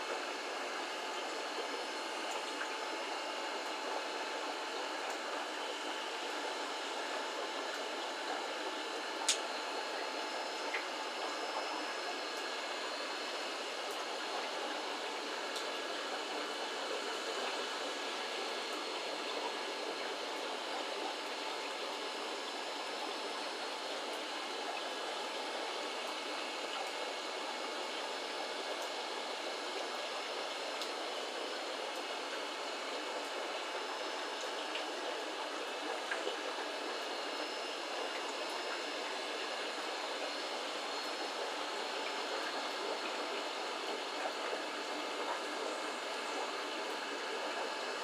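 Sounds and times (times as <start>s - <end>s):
aquarium water rushing: 0.0s - 48.0s.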